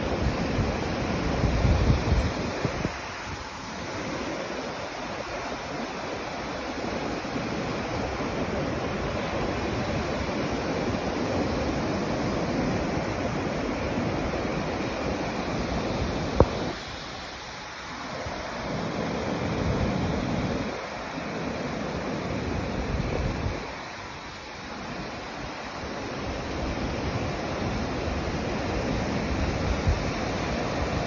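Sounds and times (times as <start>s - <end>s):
ocean surf breaking: 0.0s - 31.0s
wind on microphone: 0.0s - 31.0s.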